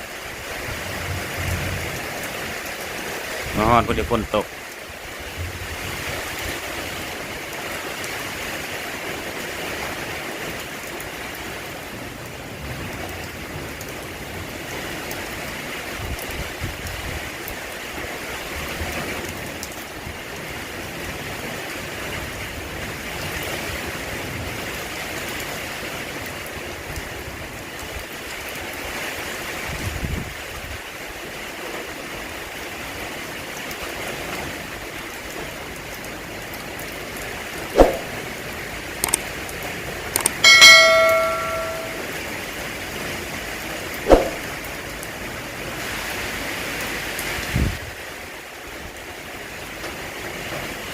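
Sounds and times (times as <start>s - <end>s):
steady rain falling: 0.0s - 40.5s, 41.9s - 50.9s.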